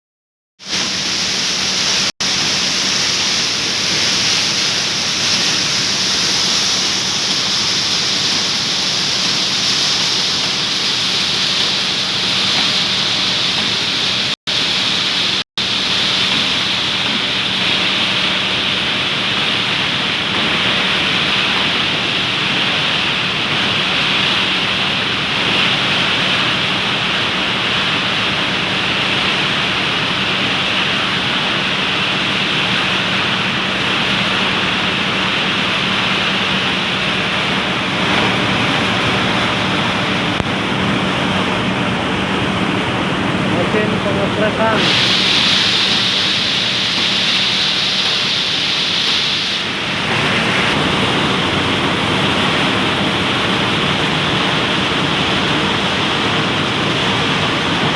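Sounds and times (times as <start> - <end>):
mill machinery hissing: 0.6 - 57.9
low machinery hum: 0.7 - 57.9.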